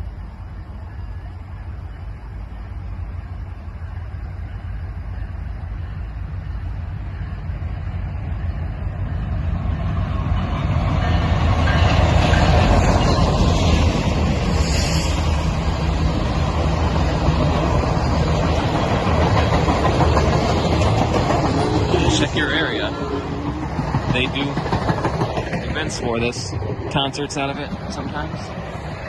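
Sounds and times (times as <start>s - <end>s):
train rolling past: 0.0s - 29.0s.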